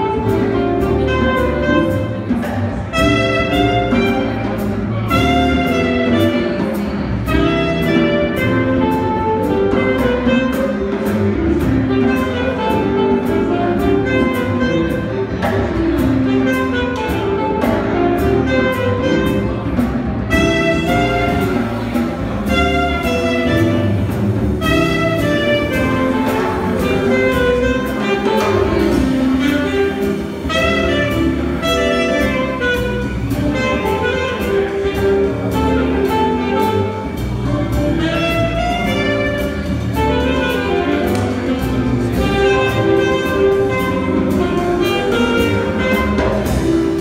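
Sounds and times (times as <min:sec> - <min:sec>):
drum kit with cymbal beat: 0:00.0 - 0:47.0
saxophone melody: 0:00.0 - 0:47.0
upright bass: 0:00.0 - 0:47.0.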